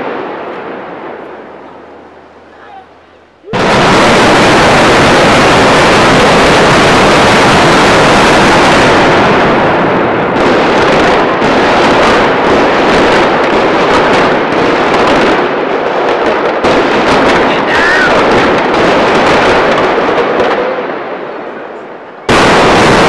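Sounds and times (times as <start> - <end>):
demolition blast roar: 0.0 - 23.0
rapid crackling pops: 0.0 - 23.0.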